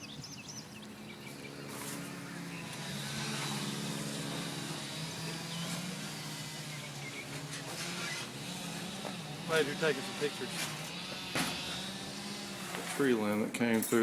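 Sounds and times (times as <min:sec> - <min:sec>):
birds chirping faintly: 0:00.0 - 0:14.0
motor engine running: 0:00.0 - 0:14.0.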